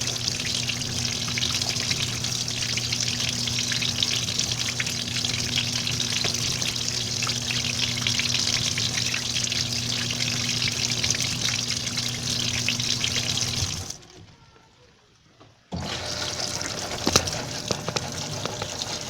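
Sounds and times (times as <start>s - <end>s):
washing machine water splashing: 0.0s - 14.5s, 15.7s - 19.0s.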